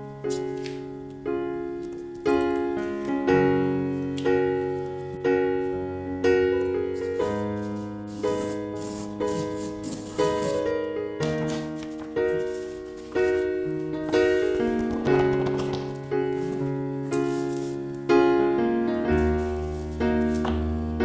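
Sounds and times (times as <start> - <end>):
gentle piano chords: 0.0 - 21.0.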